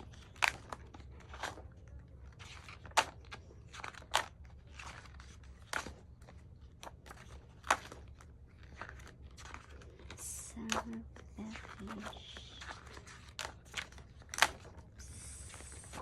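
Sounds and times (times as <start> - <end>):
paper pages rustling: 0.0 - 16.0
sharp paper crackles: 0.0 - 16.0.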